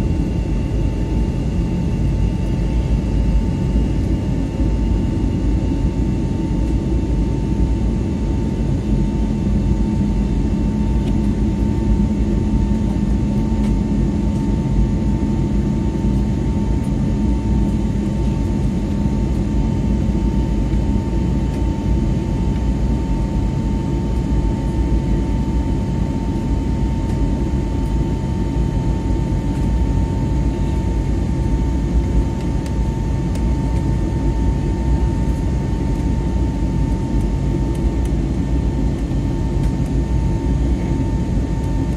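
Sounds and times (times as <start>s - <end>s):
jet engine rumble in cabin: 0.0s - 41.9s.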